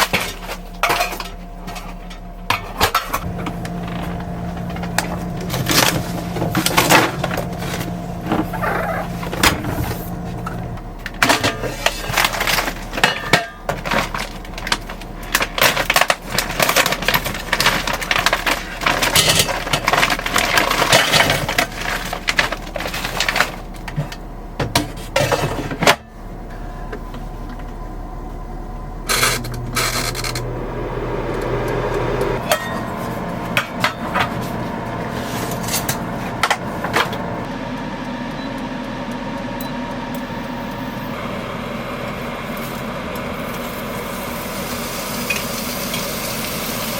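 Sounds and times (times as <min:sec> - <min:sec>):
steady low hum: 0:00.0 - 0:44.7.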